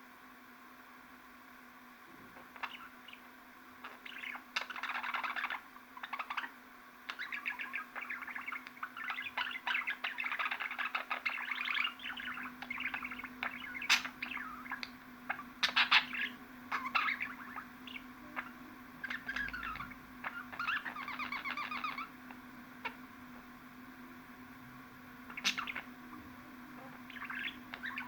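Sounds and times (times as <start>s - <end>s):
steady low hum: 0.0s - 28.0s
budgerigar warbling and chattering: 2.4s - 23.0s, 25.3s - 28.0s.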